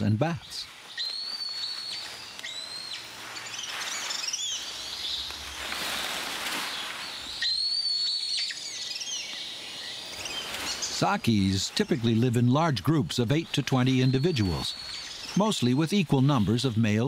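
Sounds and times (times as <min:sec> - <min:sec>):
birds whistling and trilling: 0:00.0 - 0:17.0
steady forest hiss: 0:00.0 - 0:17.0.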